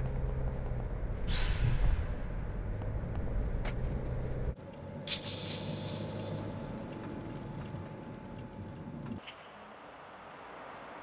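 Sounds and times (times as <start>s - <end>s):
road rumble inside van: 0.0s - 11.0s.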